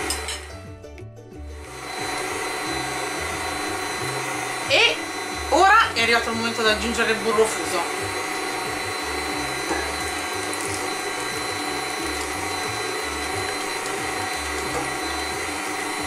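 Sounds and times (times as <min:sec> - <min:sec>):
stand mixer motor running: 0:00.0 - 0:00.5, 0:01.5 - 0:16.0.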